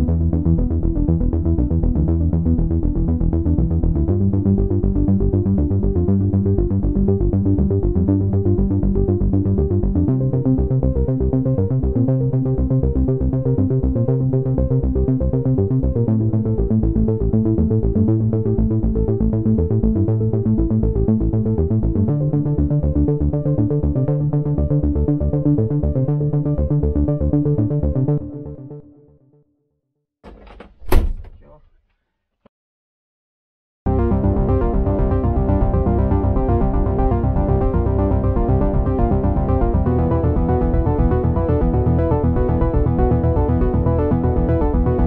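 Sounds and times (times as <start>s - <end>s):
electronic music with bass: 0.0s - 28.7s, 33.9s - 45.0s.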